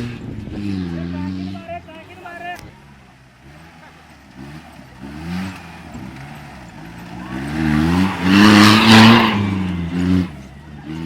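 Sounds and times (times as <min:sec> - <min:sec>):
engine revving hard: 0:00.0 - 0:11.0.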